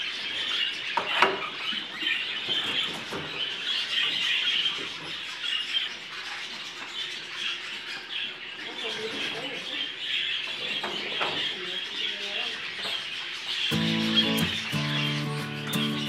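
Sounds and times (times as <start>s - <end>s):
budgerigars chattering and chirping: 0.0s - 16.0s.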